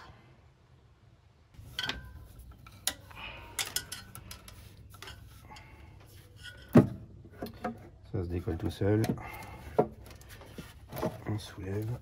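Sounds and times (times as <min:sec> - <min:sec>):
hands handling engine parts: 0:01.6 - 0:12.0.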